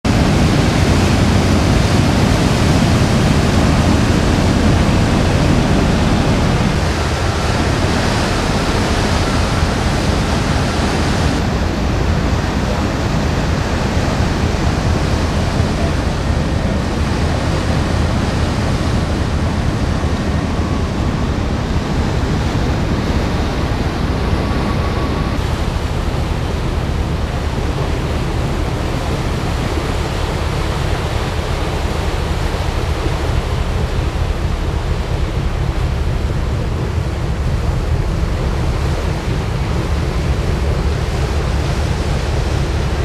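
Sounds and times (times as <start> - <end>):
wake water churning: 0.0 - 43.0
wind: 0.0 - 43.0.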